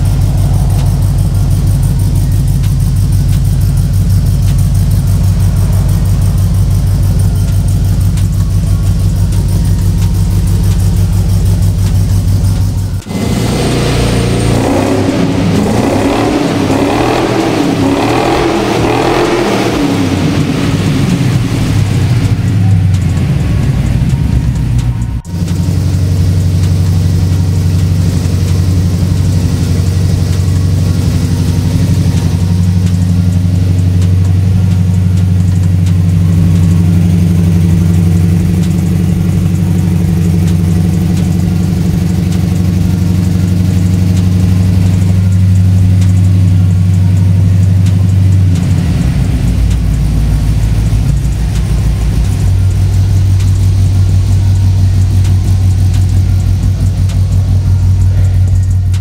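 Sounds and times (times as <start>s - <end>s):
pickup engine idling: 0.0s - 59.0s.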